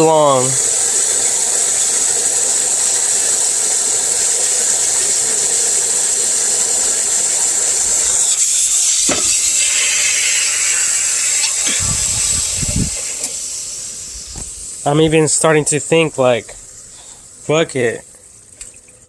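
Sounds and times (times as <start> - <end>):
water hose jetting into water: 0.0 - 18.9.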